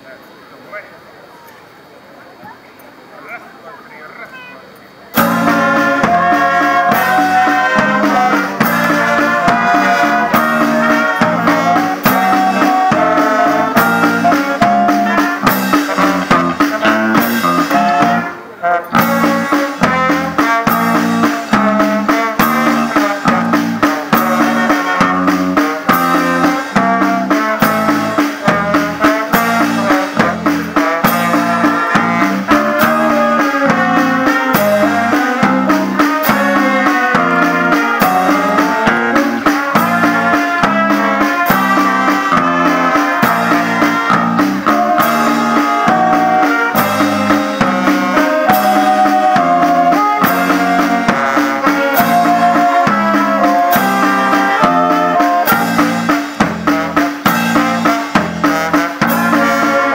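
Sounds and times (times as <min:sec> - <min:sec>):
wind band playing upbeat tune: 0:03.3 - 0:59.9
snare and bass drum beat: 0:05.2 - 0:59.9.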